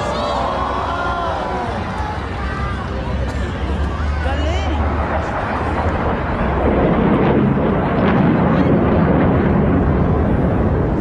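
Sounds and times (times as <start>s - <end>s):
aircraft flying past: 1.8s - 11.0s.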